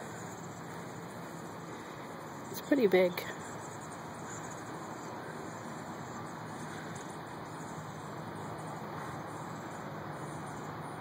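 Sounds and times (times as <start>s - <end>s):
low outdoor hum: 0.0s - 11.0s.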